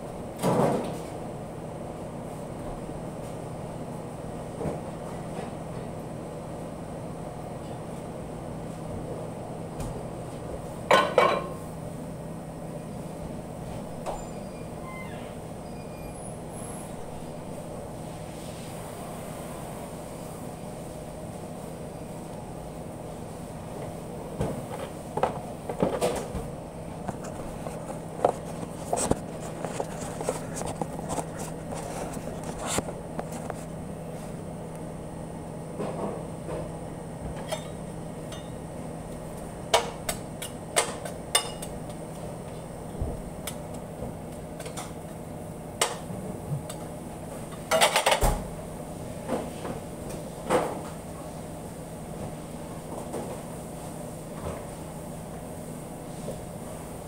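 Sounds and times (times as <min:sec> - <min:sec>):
kitchen equipment hum: 0:00.0 - 0:57.0.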